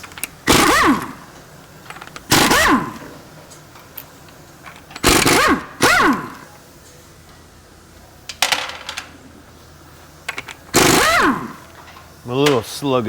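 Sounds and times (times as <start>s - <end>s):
pneumatic impact wrench whining: 0.0s - 7.3s, 8.2s - 12.8s.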